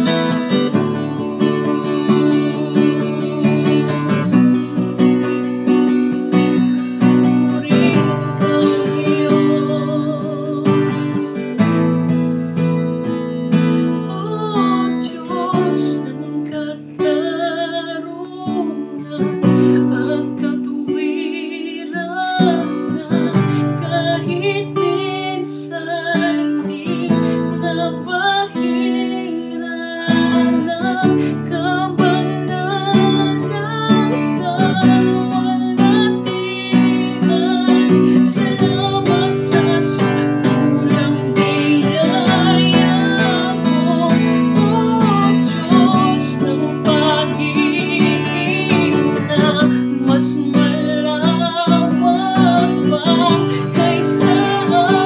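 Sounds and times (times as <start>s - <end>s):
acoustic guitar: 0.0s - 55.0s.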